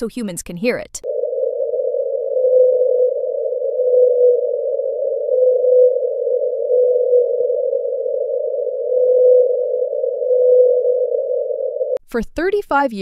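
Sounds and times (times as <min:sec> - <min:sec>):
sea noise: 0:01.0 - 0:12.0
whale call hums: 0:01.0 - 0:12.0.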